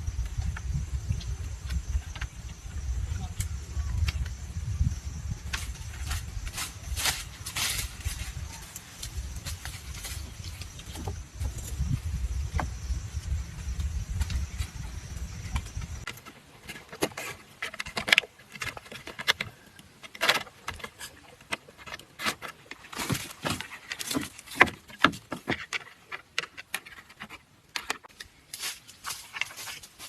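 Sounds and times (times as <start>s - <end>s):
bamboo clicks and knocks: 3.3s - 4.4s, 5.4s - 30.0s.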